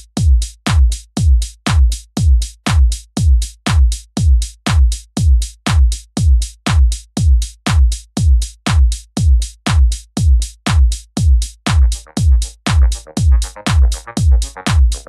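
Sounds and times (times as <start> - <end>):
electronic music with kick drum: 0.0 - 15.0.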